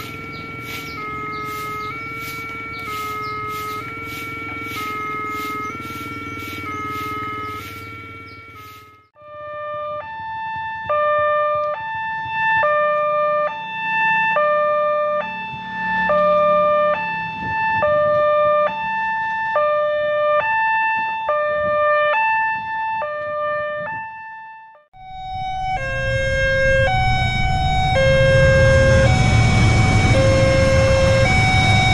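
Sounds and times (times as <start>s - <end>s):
level-crossing two-tone alarm: 0.0s - 18.8s, 25.0s - 31.9s.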